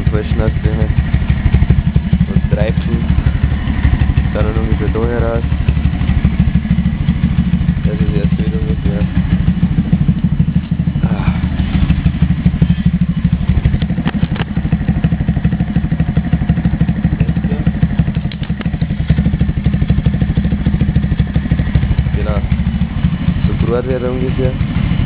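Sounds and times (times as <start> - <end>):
small motorcycle engine idling: 0.0 - 25.0.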